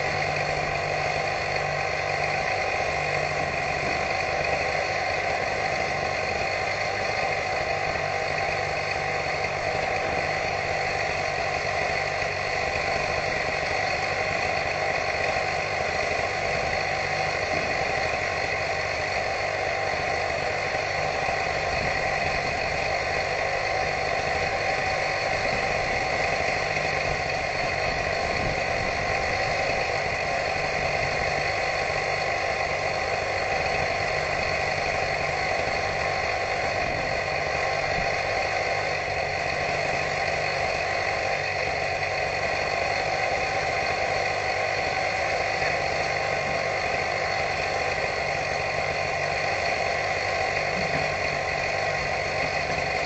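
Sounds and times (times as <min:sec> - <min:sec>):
motor droning with whine: 0:00.0 - 0:53.0.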